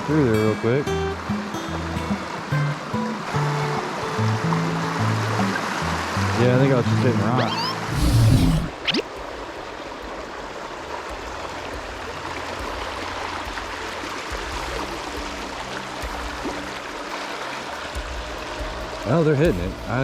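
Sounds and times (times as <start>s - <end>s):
creek water flowing over rock: 1.1s - 19.0s.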